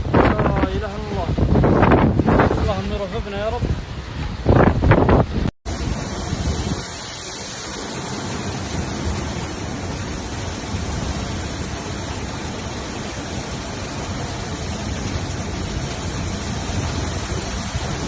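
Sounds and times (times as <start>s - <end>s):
windstorm rushing: 0.0s - 18.0s.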